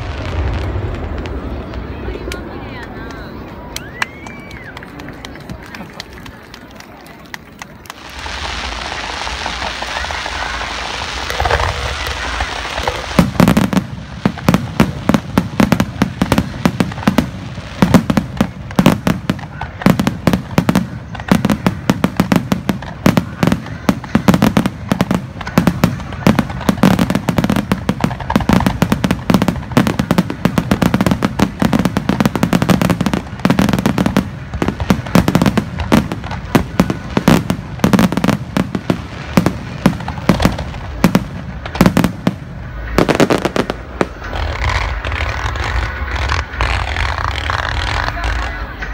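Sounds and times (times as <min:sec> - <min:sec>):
deep fireworks booms: 0:00.0 - 0:03.6, 0:07.5 - 0:48.9
fireworks bangs and cracks: 0:00.0 - 0:48.9.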